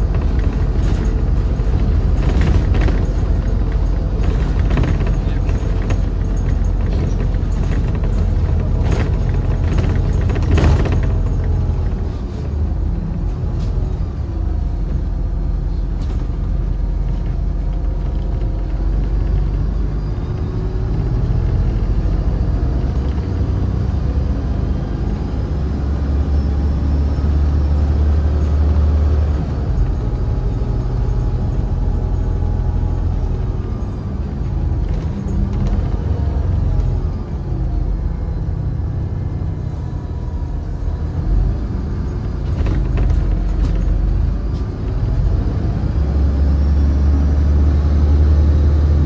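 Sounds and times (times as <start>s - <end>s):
bus engine and road rumble: 0.0s - 49.0s.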